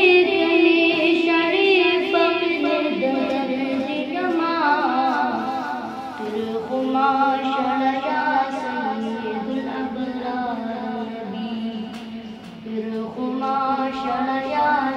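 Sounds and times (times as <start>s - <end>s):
boy singing unaccompanied: 0.0s - 14.9s.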